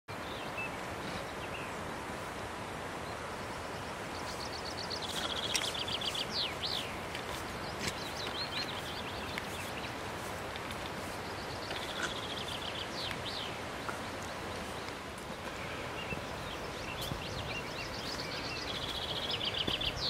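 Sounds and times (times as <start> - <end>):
songbird singing trills: 3.0 - 20.0.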